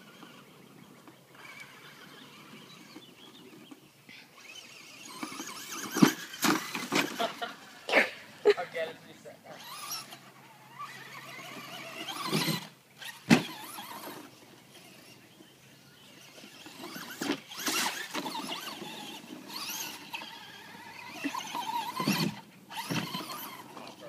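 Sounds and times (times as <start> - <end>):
electric motor whining: 0.0 - 8.4, 9.4 - 24.0.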